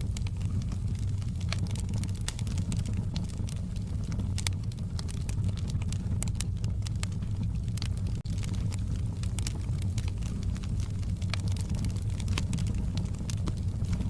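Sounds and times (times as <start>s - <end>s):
fire pops and snaps: 0.0s - 14.0s
low rumble of flames: 0.0s - 14.0s
wood fire crackling: 0.0s - 14.0s.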